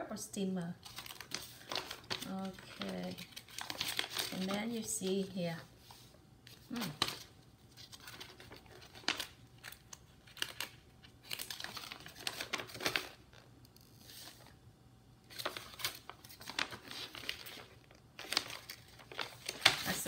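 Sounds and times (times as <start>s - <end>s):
paper rustling and crinkling: 0.8s - 14.6s, 15.3s - 20.0s.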